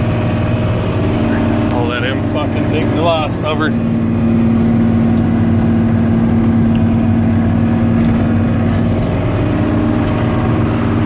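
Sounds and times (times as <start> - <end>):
combine harvester drone: 0.0 - 11.0.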